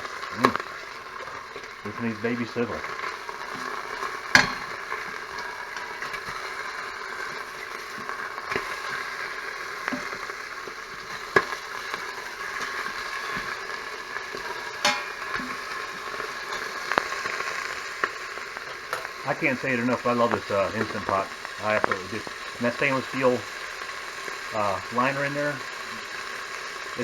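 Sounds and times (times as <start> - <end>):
pork chops sizzling: 0.0 - 27.0
sharp pops: 0.2 - 23.5.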